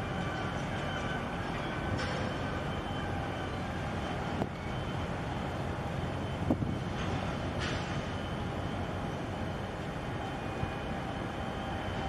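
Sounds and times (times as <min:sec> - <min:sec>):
faint steady tones: 0:00.0 - 0:12.0
harbour rumble and hiss: 0:00.0 - 0:12.0.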